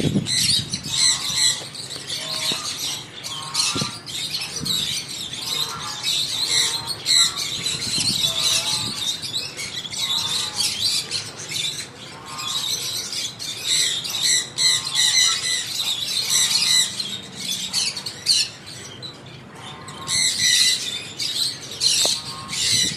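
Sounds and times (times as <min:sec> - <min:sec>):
lovebirds chattering and squawking: 0:00.0 - 0:22.9.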